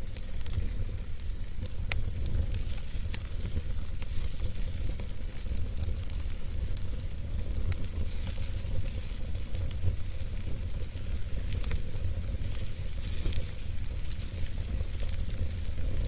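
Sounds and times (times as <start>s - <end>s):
fireplace fire burning: 0.0s - 16.0s.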